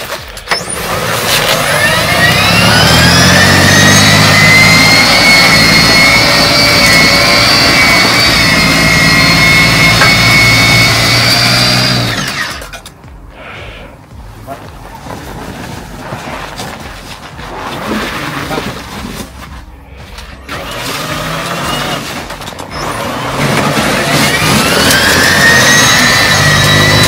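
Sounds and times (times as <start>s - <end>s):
snow blower engine whining: 0.0s - 12.9s, 15.0s - 27.0s.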